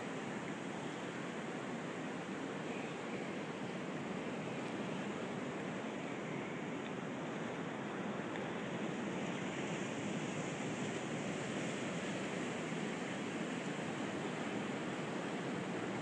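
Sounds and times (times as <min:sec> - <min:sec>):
ocean surf washing: 0:00.0 - 0:16.0.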